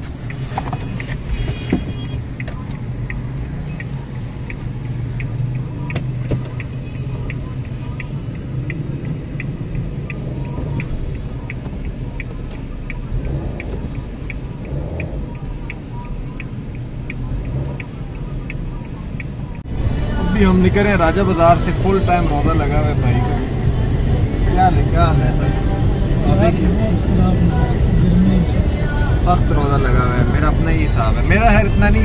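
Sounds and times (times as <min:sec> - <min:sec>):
car engine idling: 0:00.0 - 0:32.0
light even ticking: 0:00.1 - 0:32.0.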